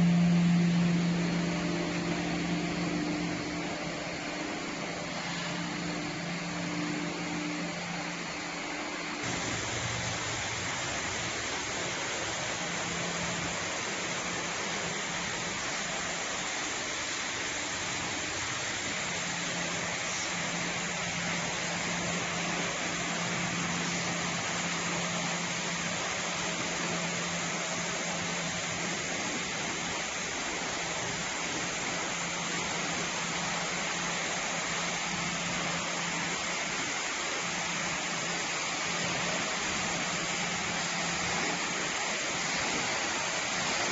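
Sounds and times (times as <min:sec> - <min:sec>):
low machinery hum: 0:00.0 - 0:43.9.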